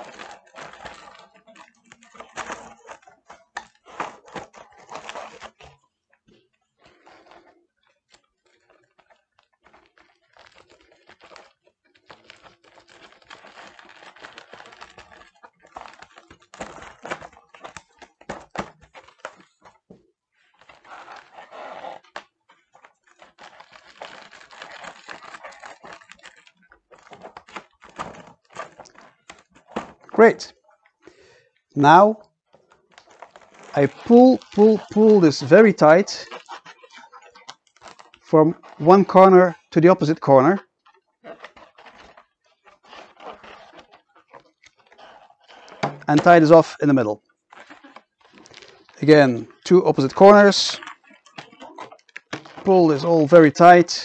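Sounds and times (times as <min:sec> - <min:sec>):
foil balloons crinkling: 0:00.0 - 0:54.0.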